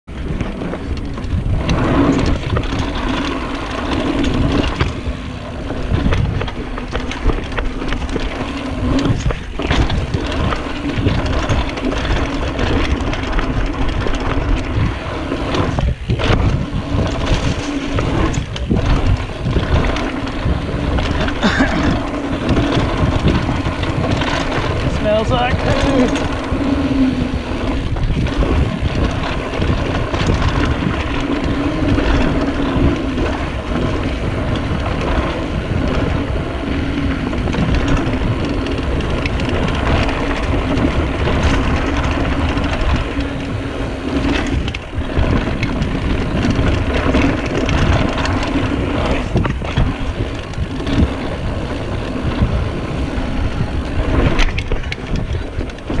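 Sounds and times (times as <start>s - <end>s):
bike knocking and rattling: 0.0s - 56.0s
wind on microphone: 0.0s - 56.0s
tyres rolling on dirt: 0.1s - 56.0s.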